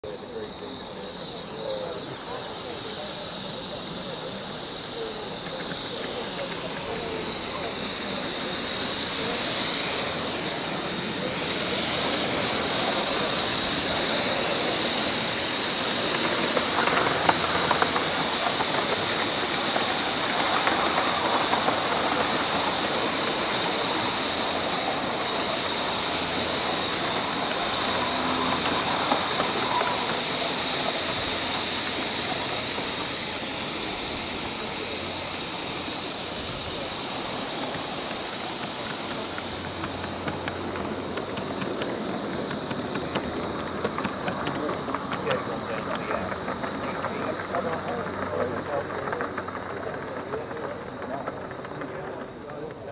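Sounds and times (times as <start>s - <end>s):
steam hissing: 0.0s - 52.9s.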